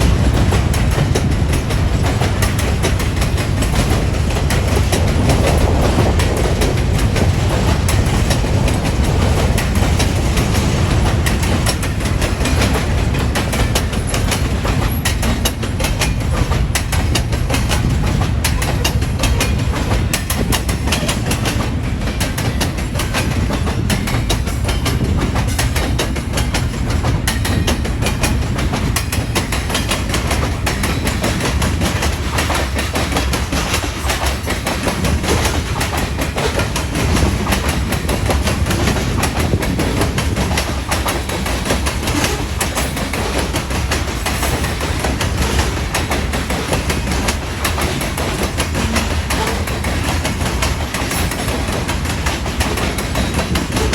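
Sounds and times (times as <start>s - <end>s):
train rumbling past: 0.0s - 53.9s
wheels clicking over rail joints: 0.0s - 53.9s.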